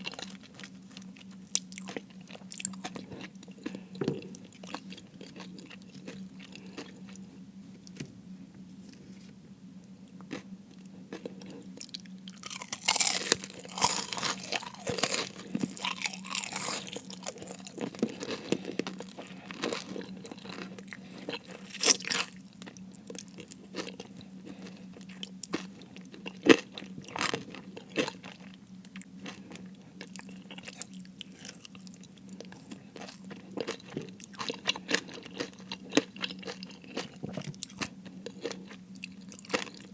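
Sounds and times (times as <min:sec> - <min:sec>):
crunching of crispy food: 0:00.0 - 0:07.3, 0:10.1 - 0:39.9
faint low hum: 0:00.0 - 0:39.9.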